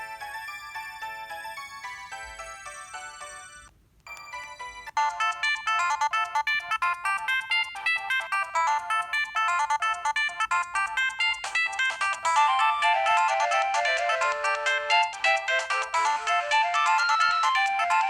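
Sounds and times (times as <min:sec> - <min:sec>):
phone ringtone melody: 0:00.0 - 0:18.0.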